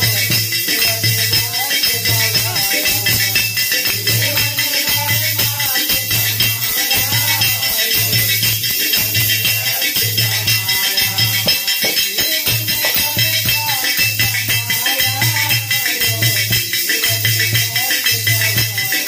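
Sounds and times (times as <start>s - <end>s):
high percussion rattle: 0.0s - 19.0s
person singing devotional song: 0.0s - 19.0s.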